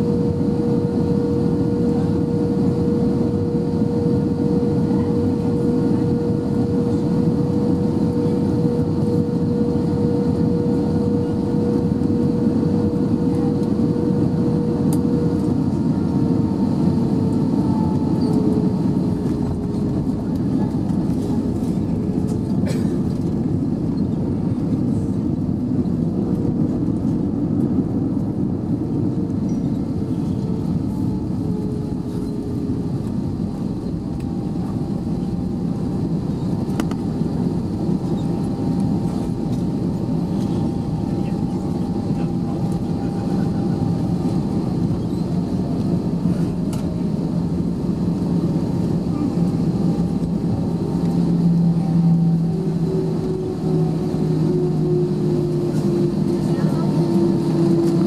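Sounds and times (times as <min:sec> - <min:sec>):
engine whine: 0:00.0 - 0:58.0
jet engine and airflow rumble: 0:00.0 - 0:58.0.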